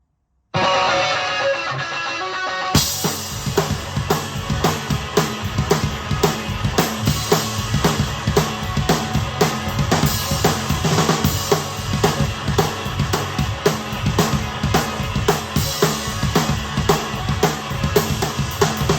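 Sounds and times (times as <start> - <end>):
rock backing track: 0.6 - 18.9.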